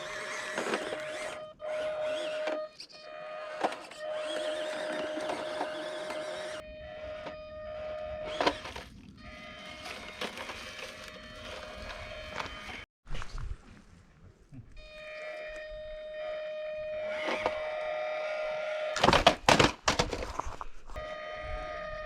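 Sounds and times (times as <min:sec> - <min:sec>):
rc truck motor whining: 0:00.0 - 0:12.9, 0:14.8 - 0:19.6, 0:20.3 - 0:22.0.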